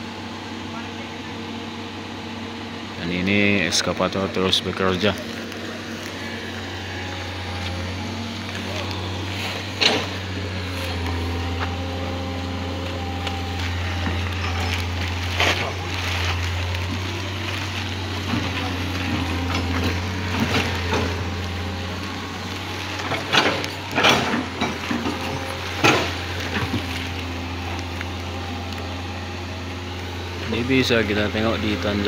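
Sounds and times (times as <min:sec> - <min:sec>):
diesel engine running: 0:00.0 - 0:32.0
footsteps on gravel: 0:04.9 - 0:32.0.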